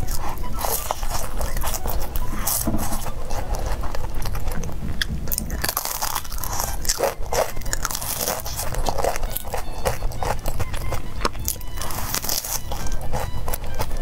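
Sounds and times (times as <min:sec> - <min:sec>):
crunching fried pastry: 0:00.0 - 0:14.0.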